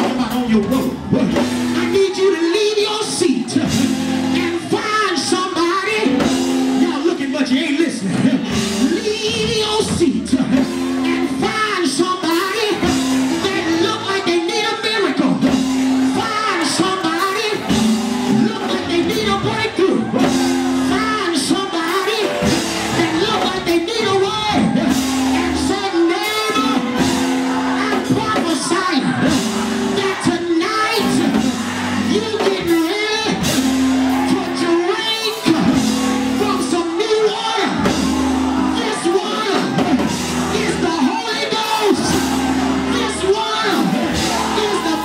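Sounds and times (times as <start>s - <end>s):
congregation singing and shouting: 0.0s - 45.0s
held keyboard chords: 0.0s - 45.0s.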